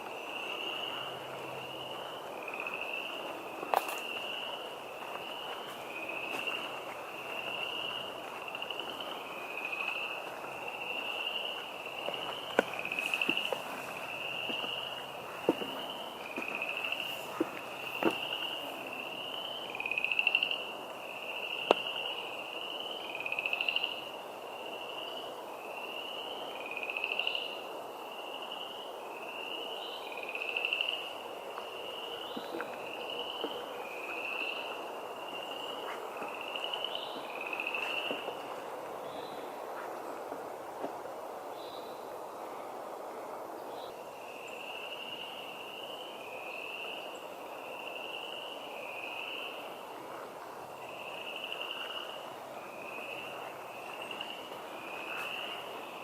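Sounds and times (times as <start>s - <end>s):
frogs calling: 0.0s - 42.7s, 43.5s - 56.0s.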